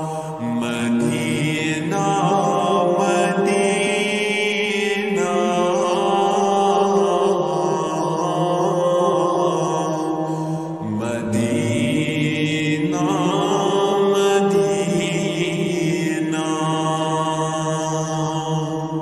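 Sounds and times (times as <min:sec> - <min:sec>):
person chanting devotional song: 0:00.0 - 0:19.0.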